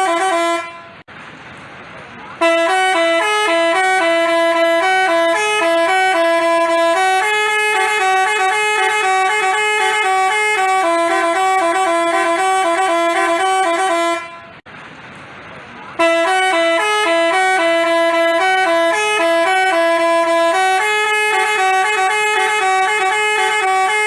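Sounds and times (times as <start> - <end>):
multi-tone bus horn tune: 0.0 - 1.1, 2.4 - 14.6, 15.9 - 24.0.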